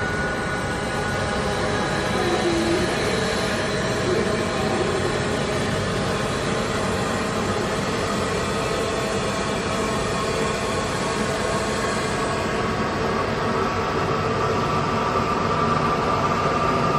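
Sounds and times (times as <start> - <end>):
airliner whine and rumble: 0.0 - 16.9.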